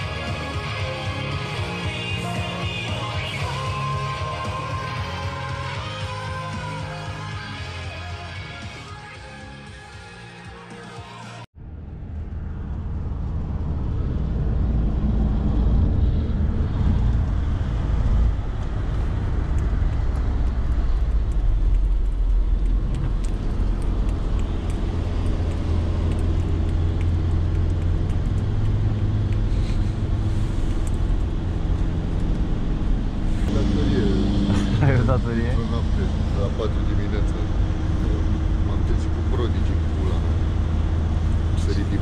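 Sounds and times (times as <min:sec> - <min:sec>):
road and engine drone: 0:00.0 - 0:09.7, 0:11.5 - 0:42.0.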